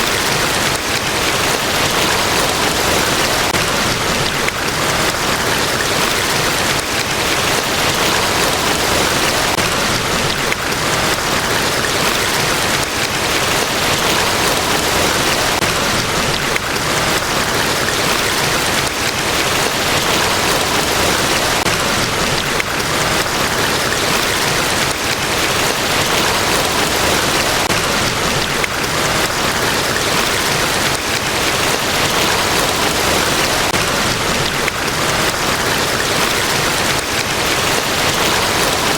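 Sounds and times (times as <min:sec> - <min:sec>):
large waterfall rushing: 0:00.0 - 0:38.9.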